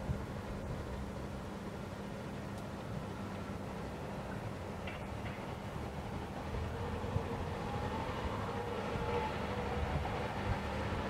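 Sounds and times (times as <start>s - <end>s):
low outdoor night rumble: 0.0s - 11.0s.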